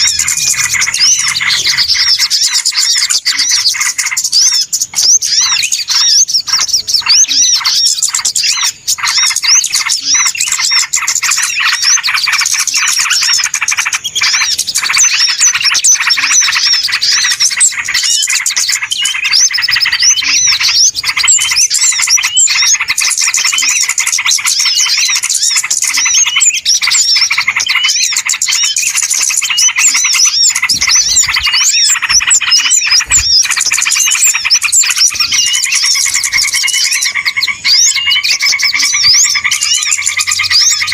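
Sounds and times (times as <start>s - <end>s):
many small birds chirping: 0.0s - 40.9s.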